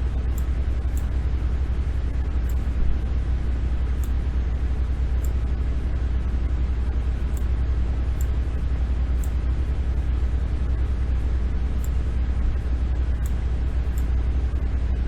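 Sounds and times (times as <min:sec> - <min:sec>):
low room noise rumble: 0:00.0 - 0:15.0.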